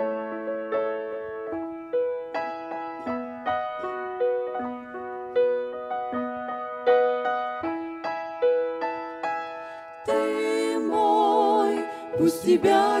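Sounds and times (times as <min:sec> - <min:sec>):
slow solo piano melody: 0:00.0 - 0:10.9.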